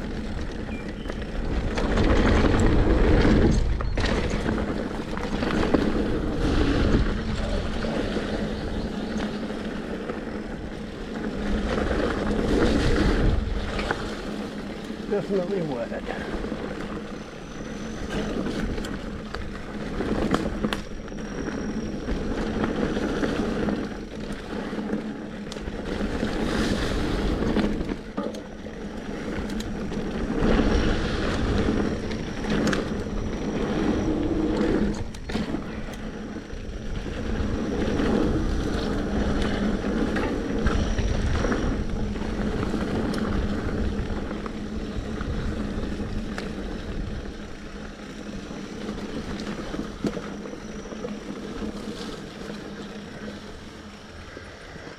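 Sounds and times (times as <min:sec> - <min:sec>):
bike knocks and rattles: 0:00.0 - 0:47.7
bike tyres rumbling on dirt: 0:00.0 - 0:54.9.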